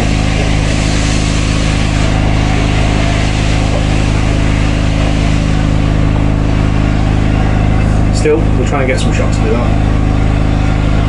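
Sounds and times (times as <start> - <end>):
steady low machine hum: 0.0 - 11.0.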